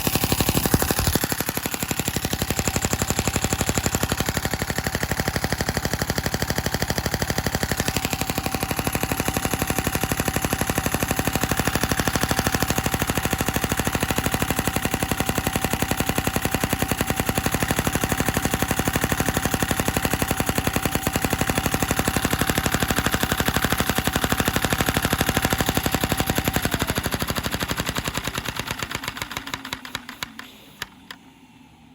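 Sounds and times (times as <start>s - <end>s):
plastic engine clatter: 0.0s - 31.2s.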